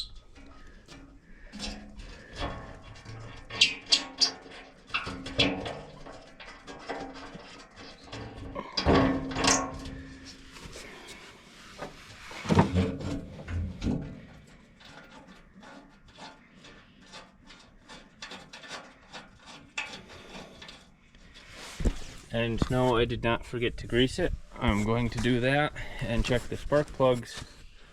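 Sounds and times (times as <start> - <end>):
hand tools and metal parts clattering: 0.0 - 22.8.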